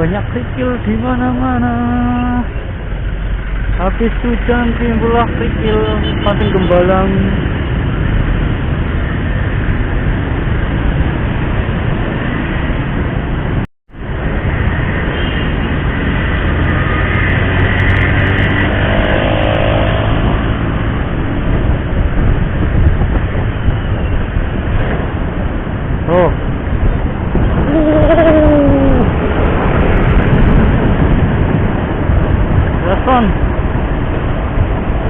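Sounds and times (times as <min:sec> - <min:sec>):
motorcycle engine hum: 0:00.0 - 0:35.0
wind and road noise: 0:00.0 - 0:35.0.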